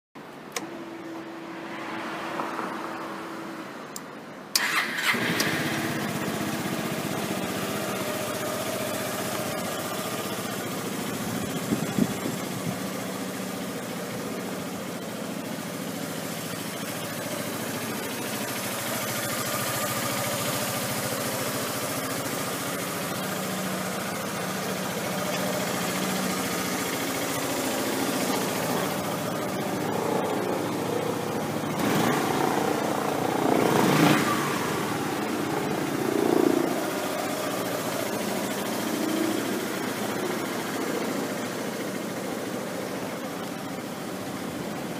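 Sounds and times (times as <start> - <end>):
scooter engine idling: 4.5 - 44.9.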